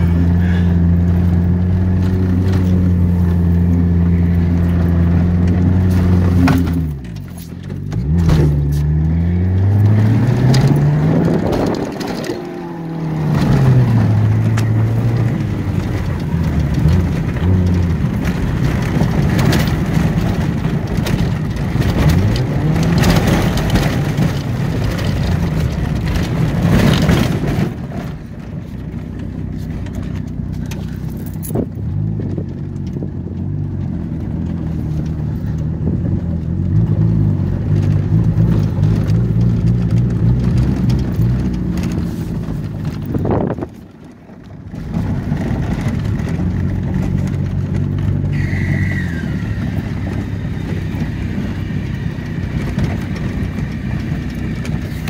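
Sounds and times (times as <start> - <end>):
car engine running: 0.0 - 55.0
road and wind noise: 0.0 - 55.0.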